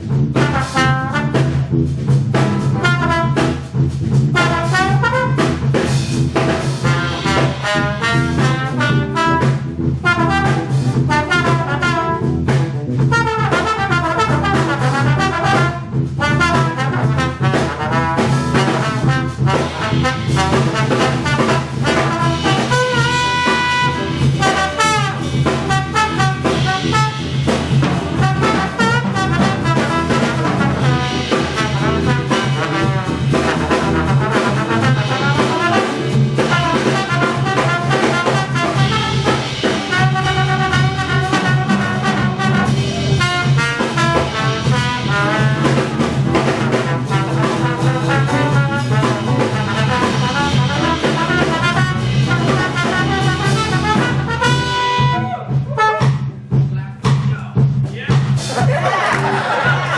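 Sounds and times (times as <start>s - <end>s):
low bass line: 0.0s - 56.8s
big-band jazz orchestra: 0.0s - 59.9s
drum kit: 0.0s - 59.9s
brass section: 0.2s - 56.4s.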